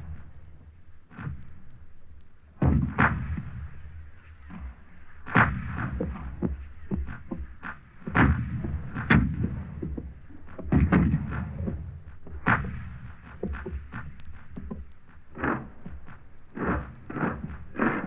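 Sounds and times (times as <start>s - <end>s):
continuous low rumble: 0.0s - 18.0s.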